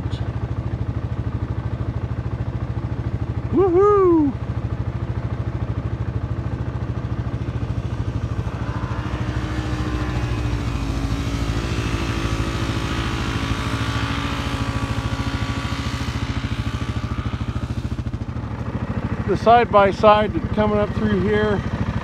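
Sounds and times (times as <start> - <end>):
faint engine rising and falling: 0.0 - 22.0
vehicle engine running: 0.0 - 22.0.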